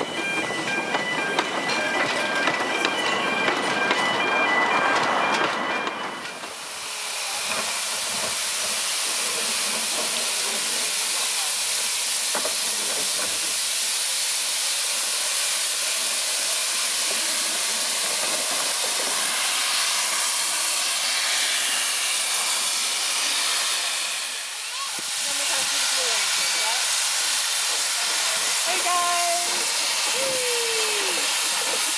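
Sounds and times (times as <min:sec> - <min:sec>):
steam hissing: 0:06.2 - 0:31.9.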